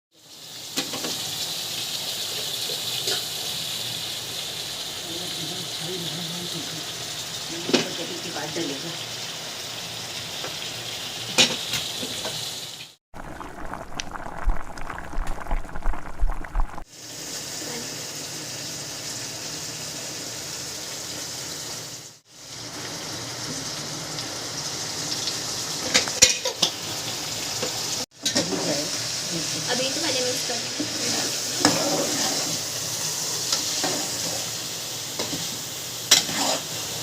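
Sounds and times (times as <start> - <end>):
stew sizzling in a pot: 0.1 - 37.0.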